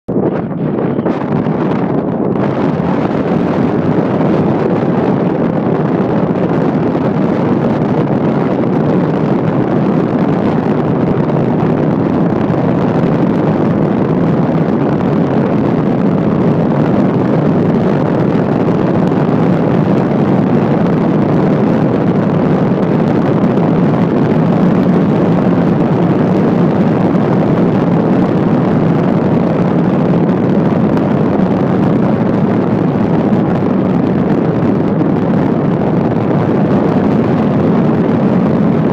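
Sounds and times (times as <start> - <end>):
car road noise: 0.1 - 38.9
wind: 0.1 - 38.9.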